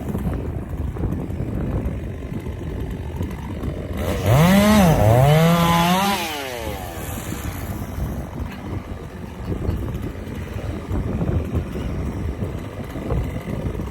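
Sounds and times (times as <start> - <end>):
chainsaw revving: 0.0 - 13.9.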